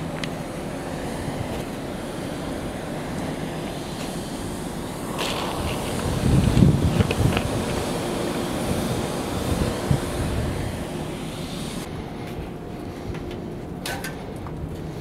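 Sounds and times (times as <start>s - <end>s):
wind on microphone: 0.0s - 13.6s.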